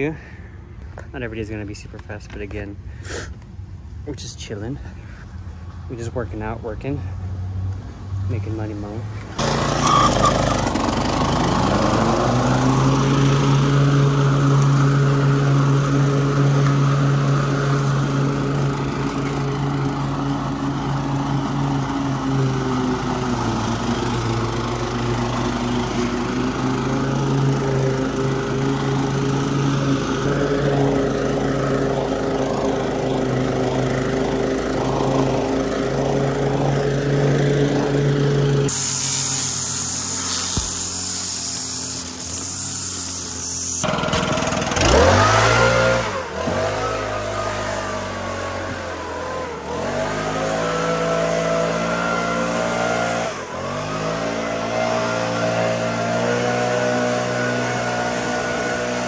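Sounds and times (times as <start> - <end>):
lawn mower engine running: 9.4 - 59.0.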